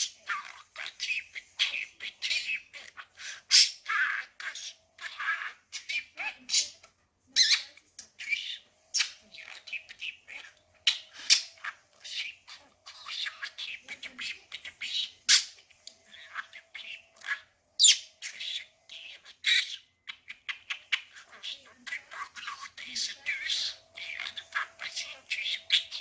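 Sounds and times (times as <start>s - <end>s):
budgerigar chattering: 0.0s - 26.0s.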